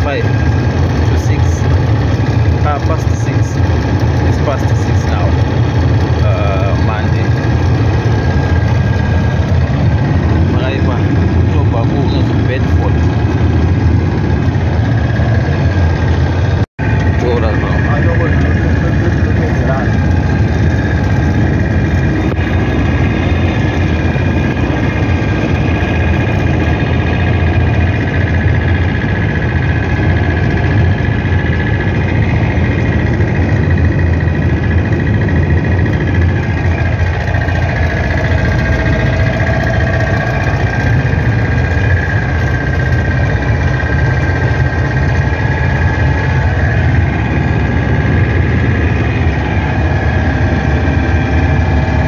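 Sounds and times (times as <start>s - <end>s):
steady high whine: 0.0s - 52.0s
vehicle engine and road rumble: 0.0s - 52.0s.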